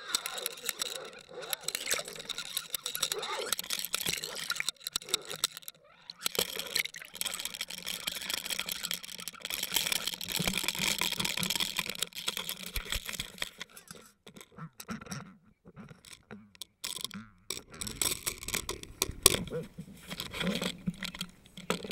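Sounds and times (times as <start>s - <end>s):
small clicks and knocks: 0.0s - 21.9s.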